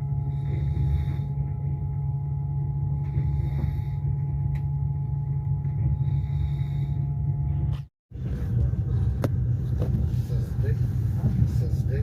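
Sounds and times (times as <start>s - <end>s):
moving train rumble: 0.0s - 12.0s
steady tonal hum: 0.0s - 12.0s.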